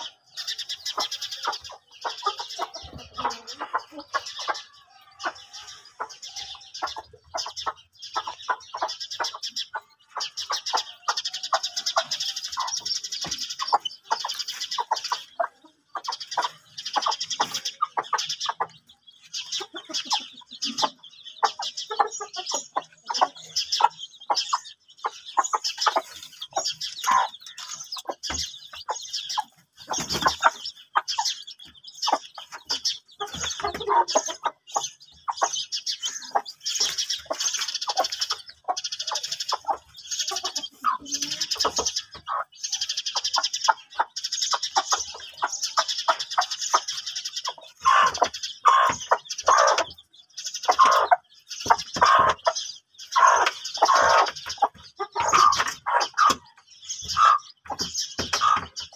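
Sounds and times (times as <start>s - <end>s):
chicks peeping: 0.0s - 58.9s
hens clucking: 0.0s - 58.9s.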